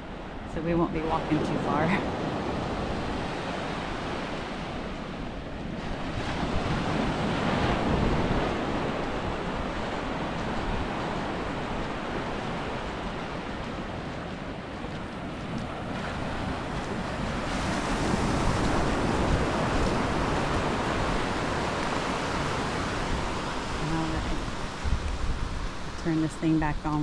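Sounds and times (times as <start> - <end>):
surf washing onto beach: 0.0 - 27.0
wind buffeting microphone: 0.0 - 27.0.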